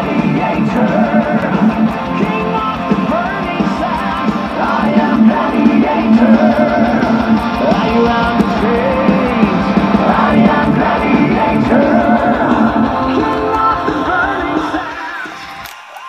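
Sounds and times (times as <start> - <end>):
loud rock music with singing: 0.0 - 16.0.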